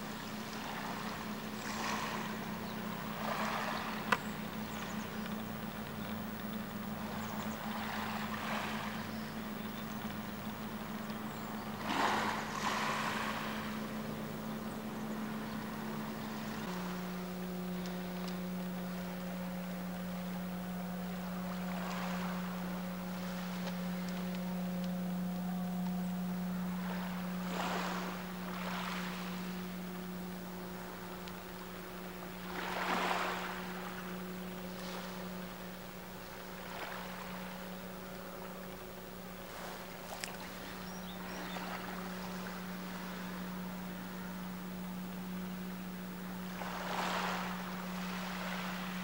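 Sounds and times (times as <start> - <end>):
low engine hum: 0.0 - 49.0.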